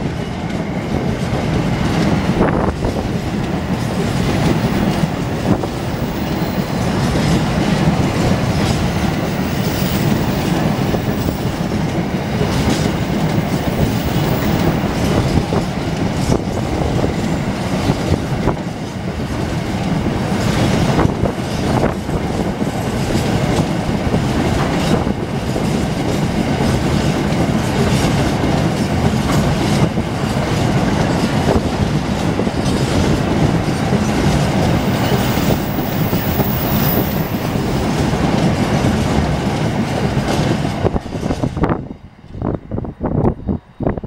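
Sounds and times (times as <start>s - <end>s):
clickety-clack over rail joints: 0.0s - 43.4s
train wheels rumbling: 0.0s - 44.0s.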